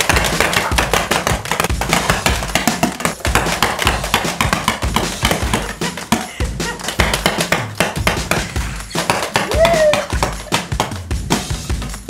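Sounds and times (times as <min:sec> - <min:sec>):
background music with steady beat: 0:00.0 - 0:12.0
sharp percussive taps: 0:00.0 - 0:12.0.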